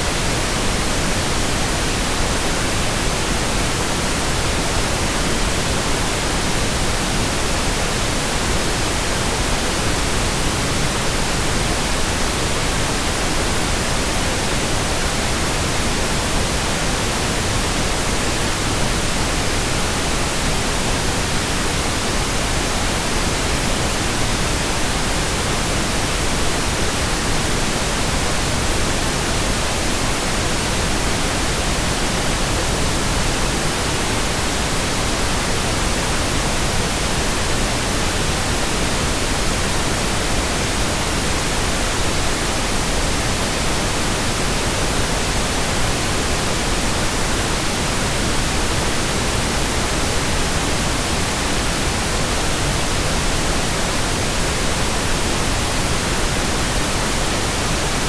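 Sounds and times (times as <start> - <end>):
steady white noise: 0.0 - 58.0.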